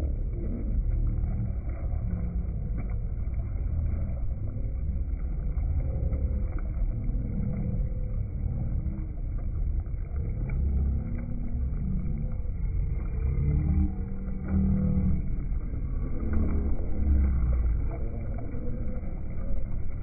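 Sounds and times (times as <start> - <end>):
boat low rumble: 0.0 - 20.0.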